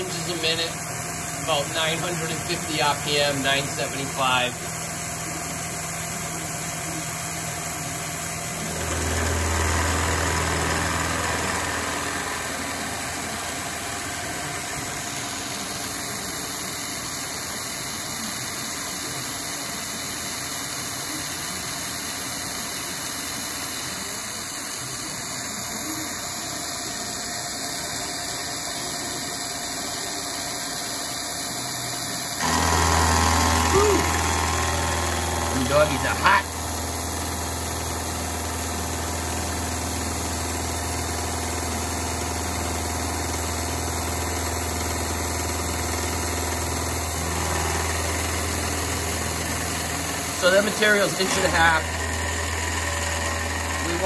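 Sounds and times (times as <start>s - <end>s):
milling machine cutting steel: 0.0s - 54.0s.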